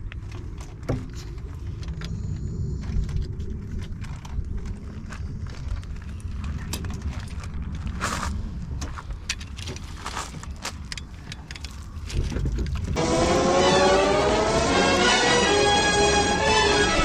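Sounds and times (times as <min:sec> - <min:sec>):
low rumble: 0:00.0 - 0:09.4, 0:12.0 - 0:17.0.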